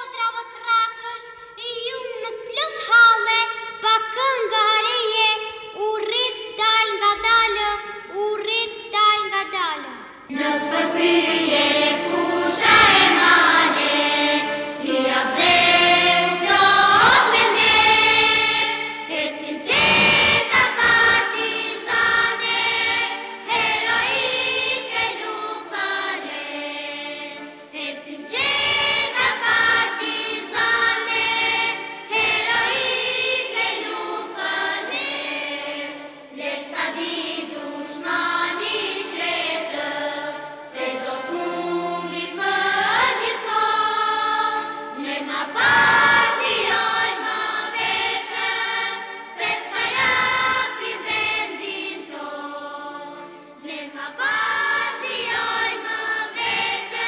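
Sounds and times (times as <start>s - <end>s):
children's choir singing: 9.9s - 57.0s.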